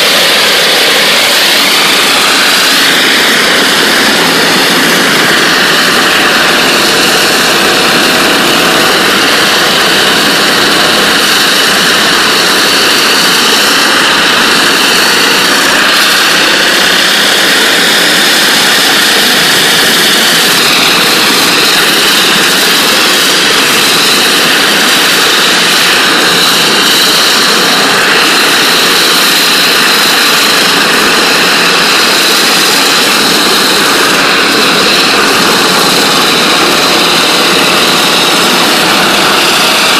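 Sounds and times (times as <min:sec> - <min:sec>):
water jets hissing: 0:00.0 - 0:39.9.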